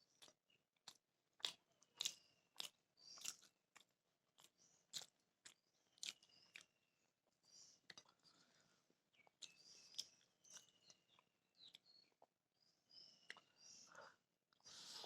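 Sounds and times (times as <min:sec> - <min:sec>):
person chewing food: 0:00.0 - 0:12.4, 0:13.2 - 0:15.0.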